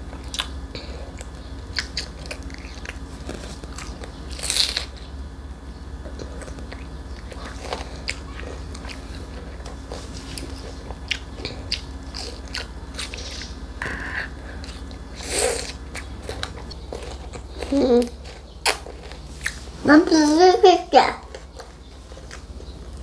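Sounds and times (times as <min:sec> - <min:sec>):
toddler crunching melon: 0:00.2 - 0:05.0, 0:06.0 - 0:23.0.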